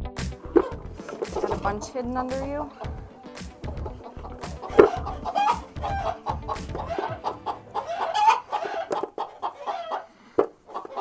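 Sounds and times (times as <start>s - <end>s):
hens clucking: 0.4s - 11.0s.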